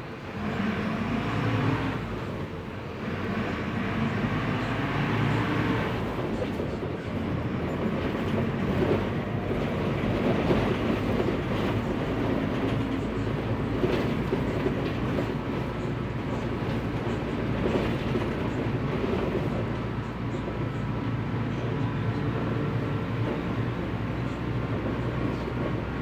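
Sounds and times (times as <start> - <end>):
bus diesel engine rumble: 0.0 - 26.0.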